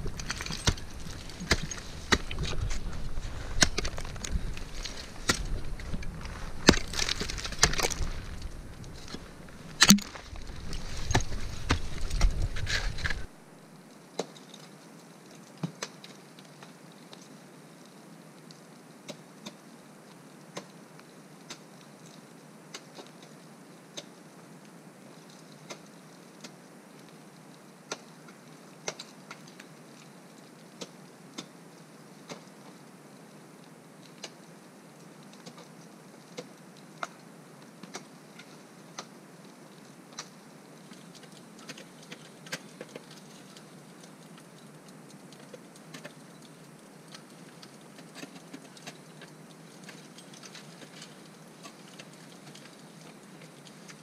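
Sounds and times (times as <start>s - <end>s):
steady low hiss: 0.0s - 54.0s.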